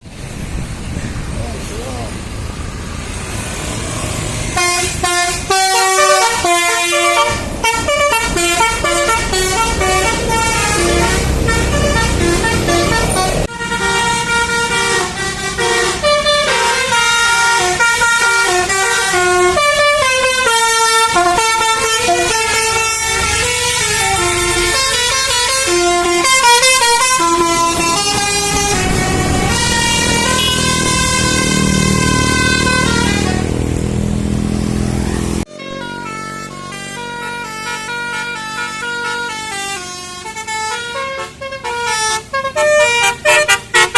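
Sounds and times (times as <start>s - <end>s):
multi-trumpet air horn melody: 4.4s - 33.7s, 35.4s - 43.9s.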